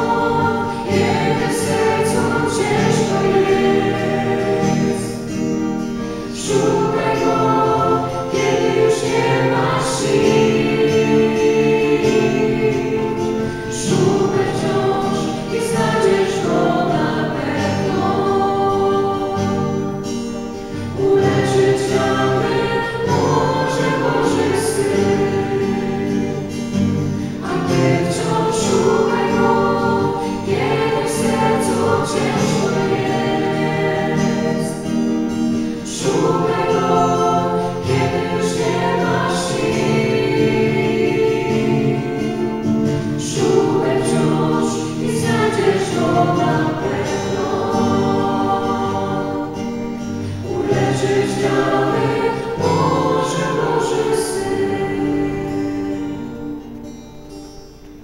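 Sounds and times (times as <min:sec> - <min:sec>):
vocal group singing in harmony: 0:00.0 - 0:57.6.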